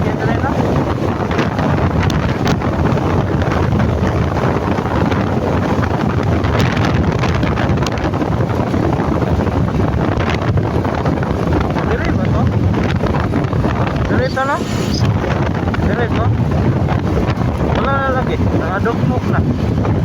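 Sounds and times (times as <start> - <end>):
motorcycle engine and road noise: 0.0 - 20.0
wind buffeting microphone: 0.0 - 20.0.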